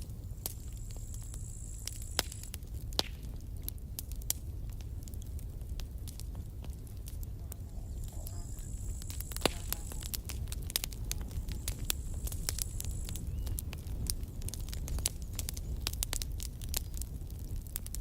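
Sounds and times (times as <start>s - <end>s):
campfire wood crackling: 0.0s - 18.0s
low rumble of flames: 0.0s - 18.0s.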